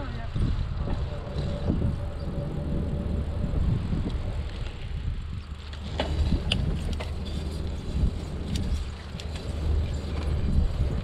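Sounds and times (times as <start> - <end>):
bicycle tyres rolling rumble: 0.0 - 11.0
wind on microphone: 0.0 - 11.0.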